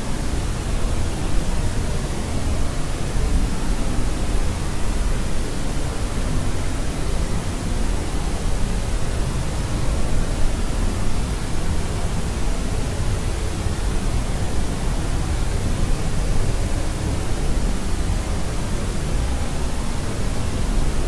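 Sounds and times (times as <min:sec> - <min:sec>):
low rumbling white noise: 0:00.0 - 0:21.0.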